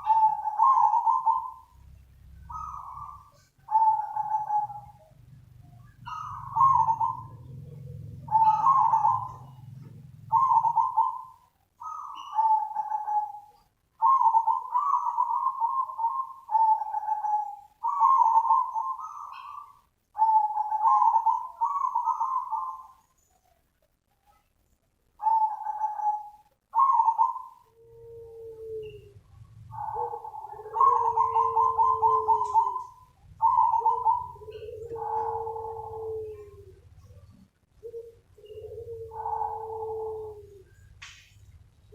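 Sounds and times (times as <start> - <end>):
dove trilling coos: 0.0 - 23.6, 25.1 - 41.9.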